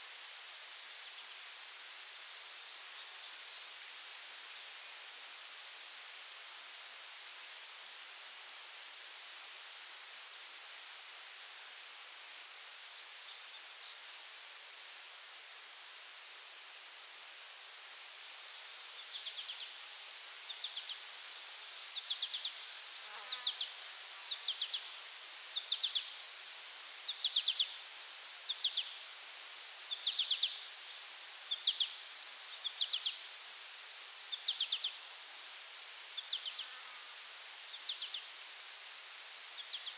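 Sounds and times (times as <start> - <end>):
faint fast insect chirping: 0.0 - 39.9
insects droning: 0.0 - 39.9.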